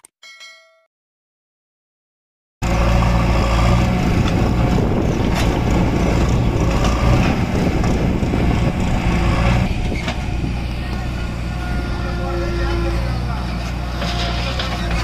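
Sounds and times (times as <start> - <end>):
diesel engines rumbling: 2.6 - 15.0.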